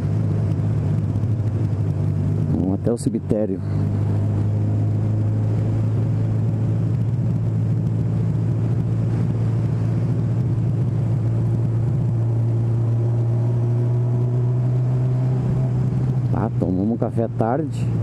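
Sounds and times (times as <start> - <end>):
motorcycle engine cruising: 0.0 - 18.0
wind and road noise: 0.0 - 18.0.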